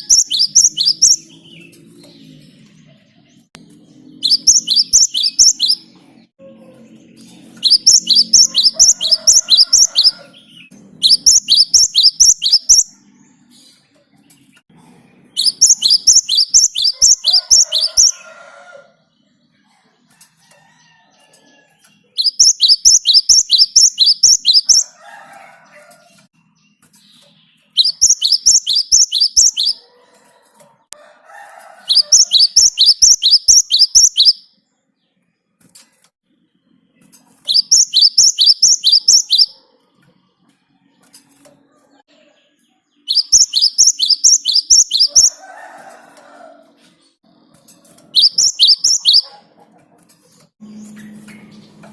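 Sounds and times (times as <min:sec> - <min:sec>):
bird singing rolling song: 0:00.0 - 0:19.6, 0:20.9 - 0:30.0, 0:31.8 - 0:35.4, 0:36.3 - 0:39.6, 0:41.9 - 0:46.4, 0:47.0 - 0:49.4.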